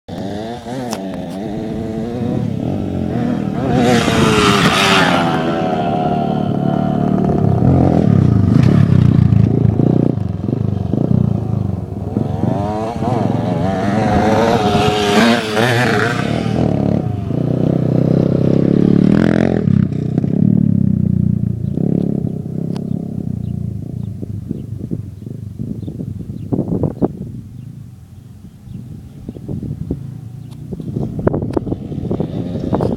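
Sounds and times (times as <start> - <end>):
dirt bike engines revving: 0.1 - 32.9.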